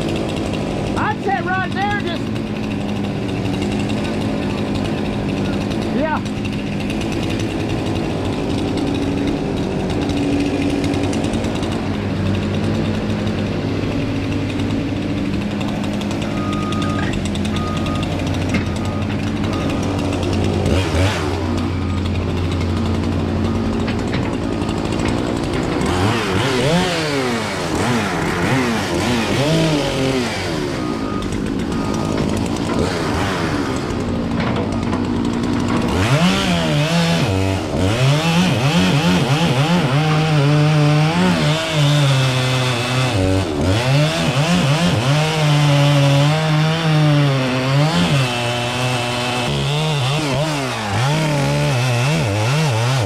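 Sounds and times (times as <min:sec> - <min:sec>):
chainsaw cutting: 0:00.0 - 0:53.0
excavator diesel engine: 0:00.0 - 0:53.0.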